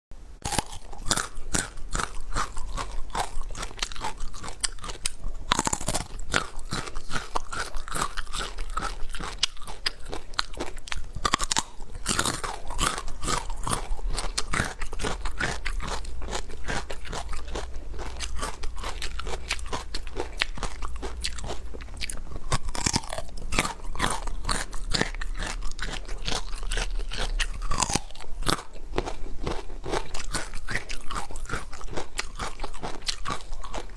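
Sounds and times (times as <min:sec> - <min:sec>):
crunchy chewing of food: 0:00.4 - 0:33.9.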